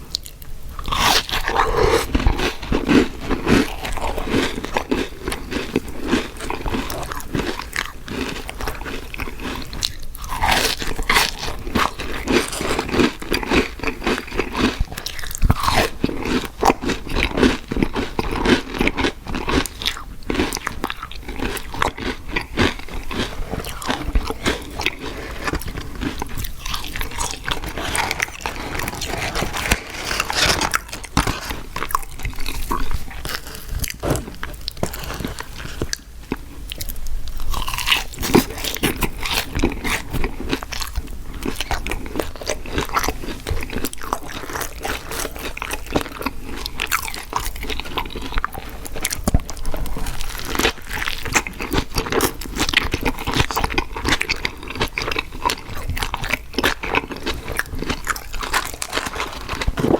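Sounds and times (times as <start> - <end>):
crunchy food chewing: 0.0 - 59.9.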